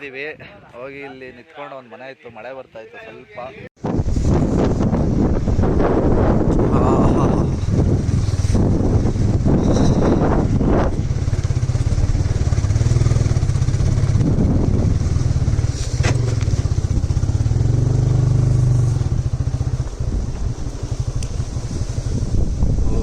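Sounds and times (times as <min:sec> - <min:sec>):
scooter engine rumbling: 0:03.8 - 0:23.0.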